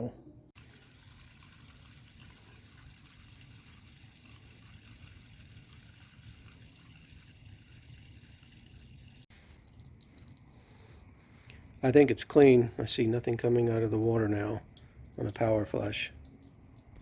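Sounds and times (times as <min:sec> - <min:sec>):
water running from faucet: 0:00.6 - 0:17.0.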